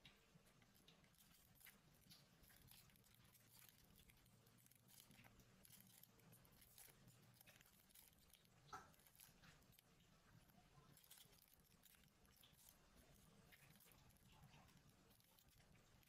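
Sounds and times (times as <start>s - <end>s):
faint rustles of dough: 0.0s - 16.0s.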